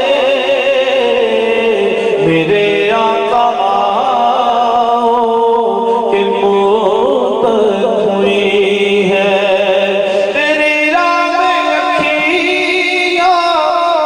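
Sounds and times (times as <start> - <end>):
man singing through a microphone: 0.0 - 14.0.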